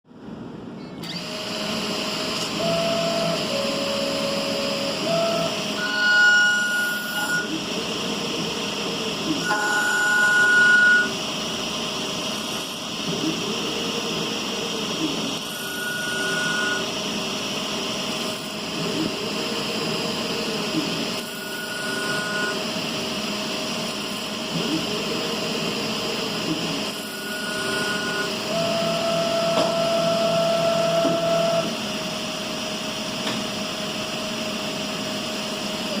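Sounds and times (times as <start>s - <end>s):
lathe machine hum: 1.1s - 36.0s.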